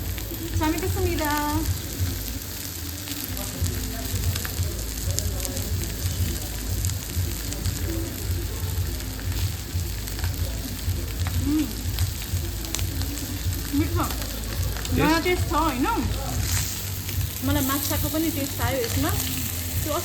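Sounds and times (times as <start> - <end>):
crackling hiss: 0.0 - 20.0
faint background voices: 0.0 - 20.0.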